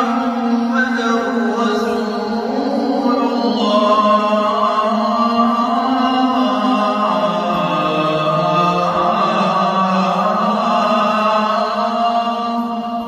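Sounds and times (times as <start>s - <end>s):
low vocal drone: 0.0s - 13.0s
person singing devotional song: 0.0s - 13.0s.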